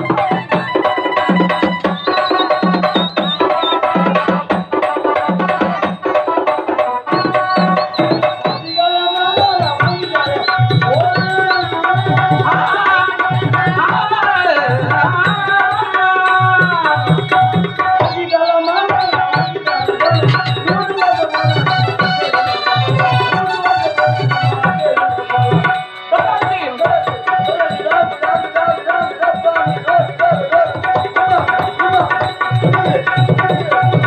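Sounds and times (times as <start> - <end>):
hand drums beating: 0.0 - 34.0
keyboard reed melody: 0.0 - 34.0.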